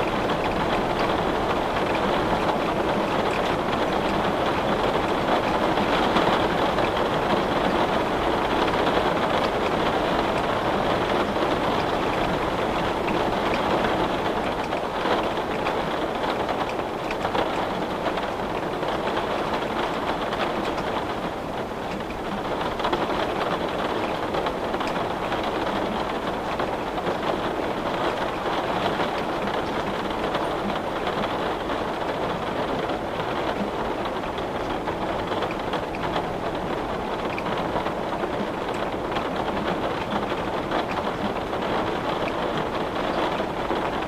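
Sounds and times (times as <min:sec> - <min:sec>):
rain against a window: 0:00.0 - 0:44.0.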